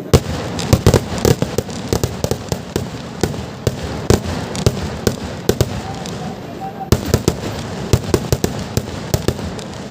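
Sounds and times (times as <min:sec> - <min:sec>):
fireworks banging: 0:00.0 - 0:09.9.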